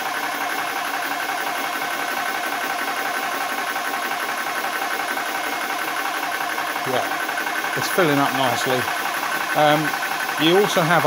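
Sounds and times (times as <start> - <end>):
air compressor pulsing drone: 0.0 - 11.0.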